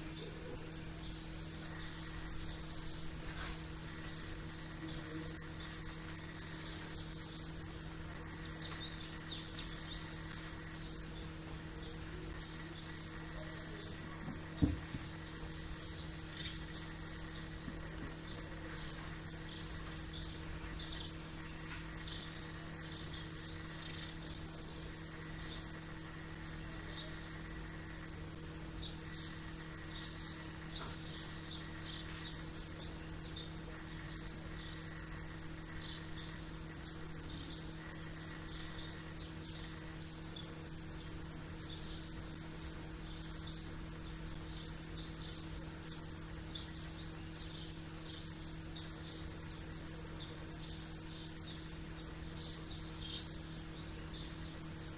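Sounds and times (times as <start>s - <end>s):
songbirds chirping: 0.0s - 54.9s
steady low hum: 0.0s - 54.9s.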